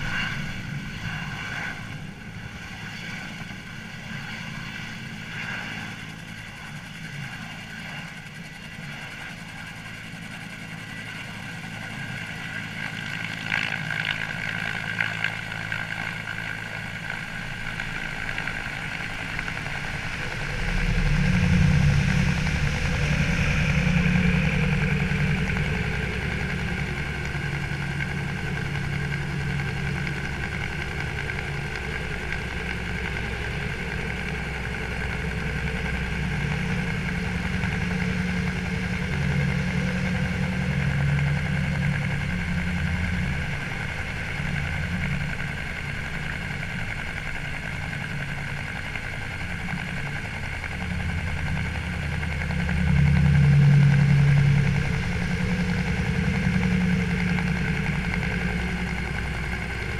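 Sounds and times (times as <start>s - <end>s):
low rumble: 0.0s - 8.8s, 9.6s - 59.9s
helicopter engine and rotor drone: 0.0s - 59.9s.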